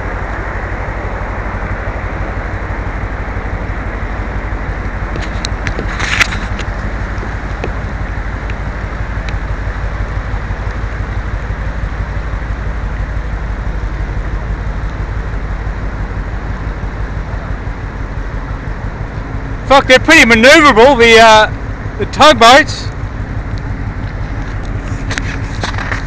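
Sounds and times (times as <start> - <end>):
churning water: 0.0 - 26.0
low ship rumble: 0.0 - 26.0.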